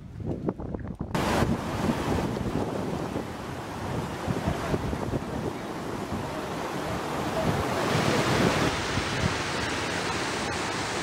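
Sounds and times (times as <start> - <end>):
wind buffeting microphone: 0.0 - 9.8
stream rushing over boulders: 1.1 - 11.0.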